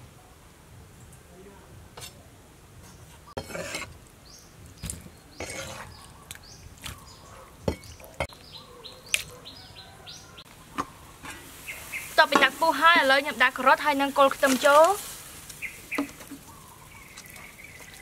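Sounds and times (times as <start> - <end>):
small birds chirping: 2.8 - 18.0.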